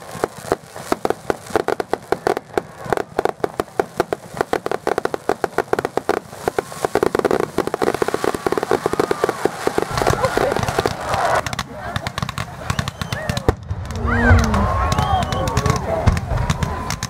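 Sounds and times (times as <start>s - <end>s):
fireworks popping and crackling: 0.0s - 17.0s.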